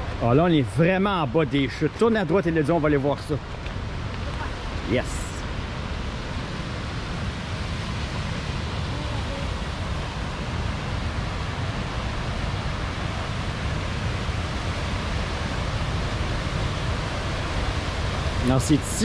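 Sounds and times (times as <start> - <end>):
waterfall and rapids rushing: 0.0 - 19.0.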